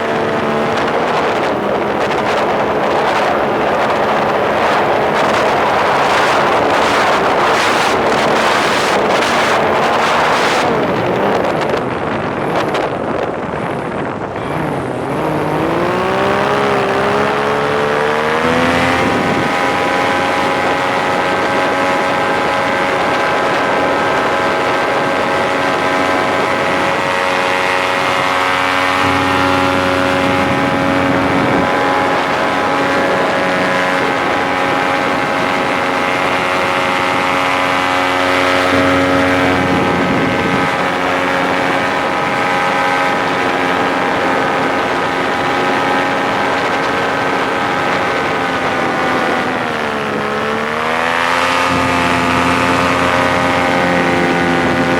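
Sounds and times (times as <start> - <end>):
paramotor engine and propeller drone: 0.0 - 54.9
wind buffeting microphone: 0.0 - 54.9.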